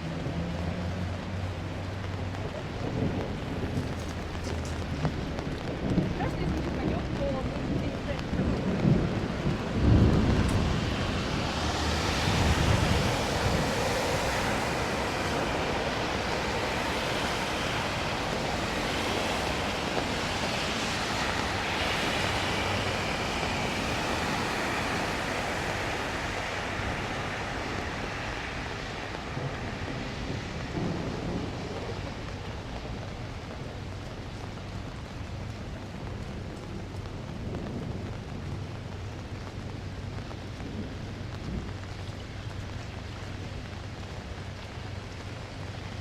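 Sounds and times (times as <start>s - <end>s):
heavy rain: 0.0s - 46.0s
low rumble of thunder: 0.0s - 46.0s.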